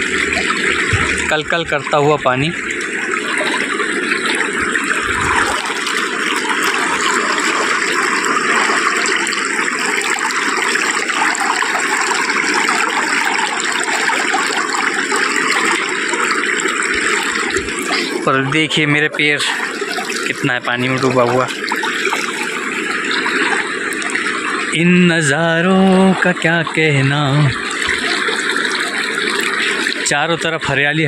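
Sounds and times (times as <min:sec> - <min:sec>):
river water babbling: 0:00.0 - 0:31.0.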